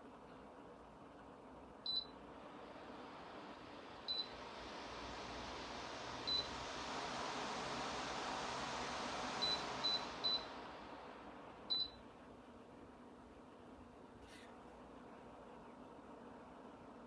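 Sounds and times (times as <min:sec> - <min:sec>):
fan airflow hiss: 0:00.0 - 0:17.0.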